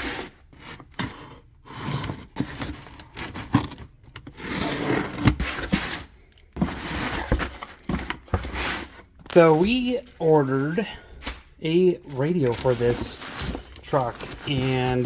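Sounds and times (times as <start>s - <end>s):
objects scraping and rustling: 0.0s - 15.0s.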